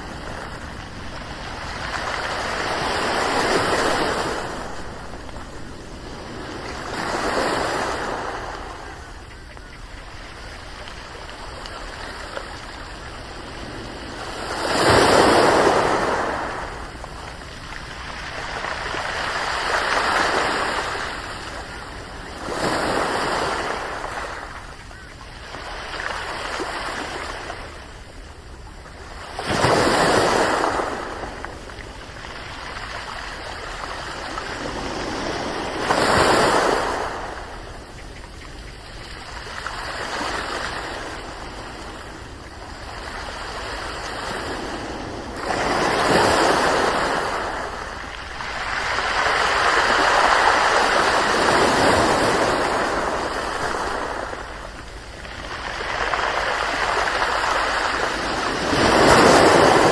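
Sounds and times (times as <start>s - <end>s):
ocean waves breaking: 0.0s - 59.9s
surf hiss: 0.0s - 59.9s.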